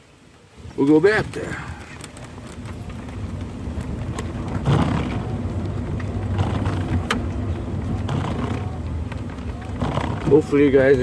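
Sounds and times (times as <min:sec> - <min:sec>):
golf cart running hum: 0:00.8 - 0:11.0
knocks and rattles: 0:01.6 - 0:11.0.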